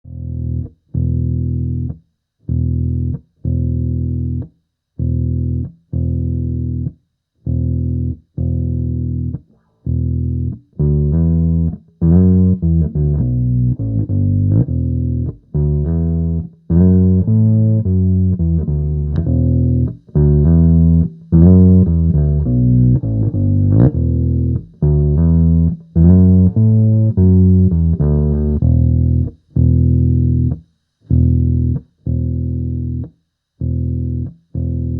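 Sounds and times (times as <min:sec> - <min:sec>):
electric bass guitar: 0:00.0 - 0:34.9.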